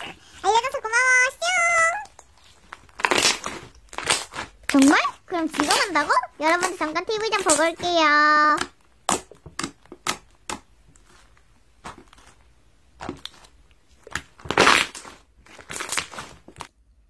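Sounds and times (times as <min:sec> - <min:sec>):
slime crunching: 0:00.0 - 0:16.8
slime popping and crackling: 0:00.4 - 0:16.8.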